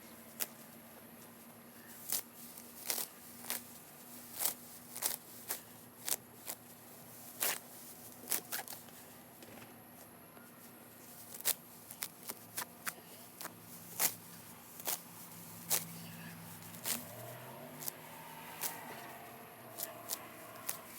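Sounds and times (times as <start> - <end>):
faint steady hum: 0.0 - 20.9
weeds being pulled up: 0.0 - 20.9.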